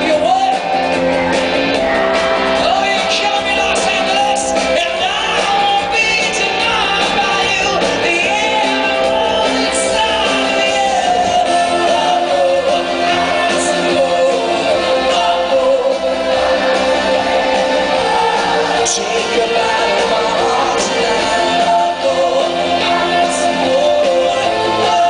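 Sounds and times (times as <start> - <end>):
live rock band: 0.0 - 25.0
person singing lead vocal: 0.0 - 25.0.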